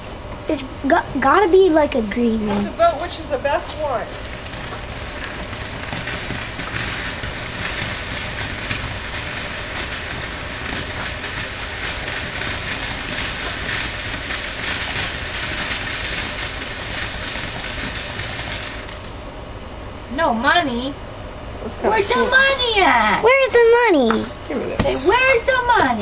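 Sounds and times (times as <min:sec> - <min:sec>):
firework fountain fizzing and crackling: 0:00.8 - 0:19.4, 0:21.6 - 0:24.2, 0:24.8 - 0:26.0.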